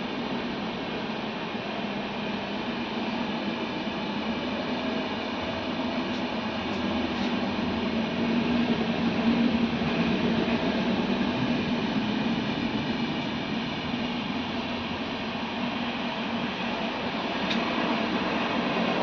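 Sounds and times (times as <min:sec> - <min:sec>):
machine running steadily: 0:00.0 - 0:19.0.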